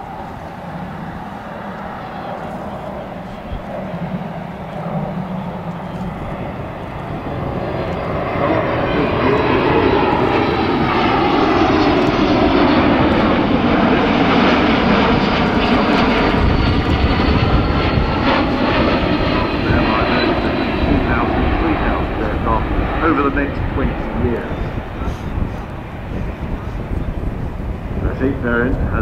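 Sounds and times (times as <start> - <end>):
jet aircraft passing: 0.0 - 29.0.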